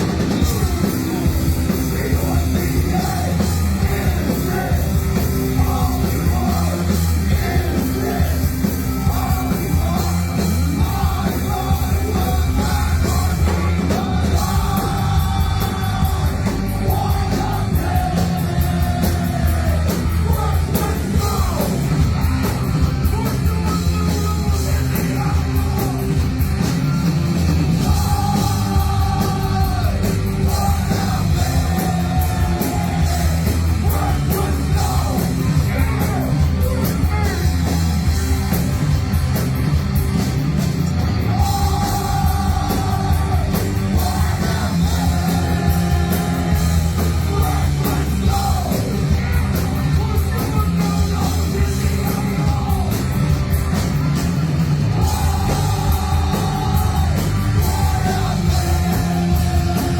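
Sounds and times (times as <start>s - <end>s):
heavy punk-metal band playing: 0.0s - 59.9s
person yelling and singing: 0.4s - 21.9s, 23.0s - 26.2s, 27.8s - 38.0s, 41.2s - 53.2s, 54.9s - 59.9s.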